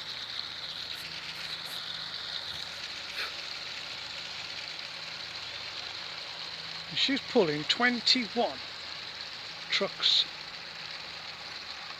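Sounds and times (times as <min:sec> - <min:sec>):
steam hissing: 0:00.0 - 0:11.9.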